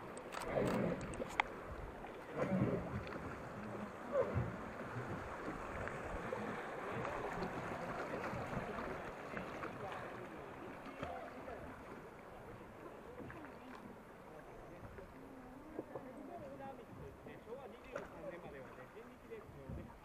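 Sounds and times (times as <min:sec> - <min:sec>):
rapids rushing and splashing: 0:00.0 - 0:20.0.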